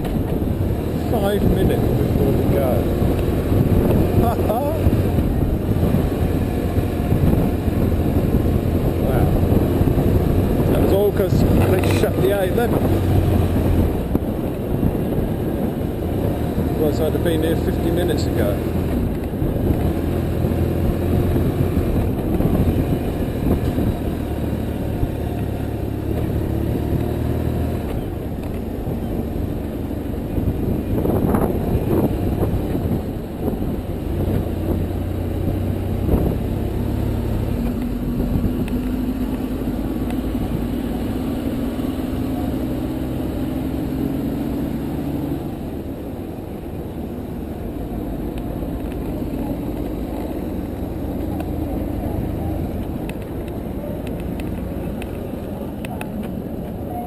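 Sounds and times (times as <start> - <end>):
steady rushing noise: 0.0 - 42.5, 43.2 - 57.0
motorcycle engine running: 0.0 - 57.0.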